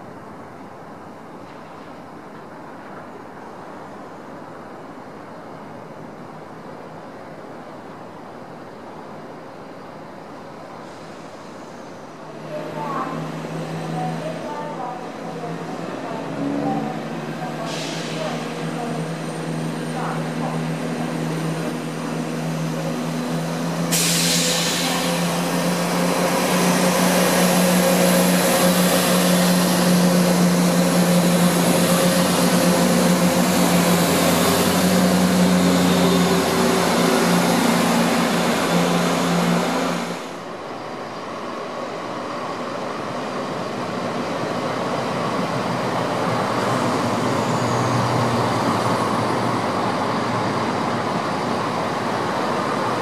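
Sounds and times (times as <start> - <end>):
train approaching: 0.0 - 53.0
train diesel engines droning: 0.0 - 53.0.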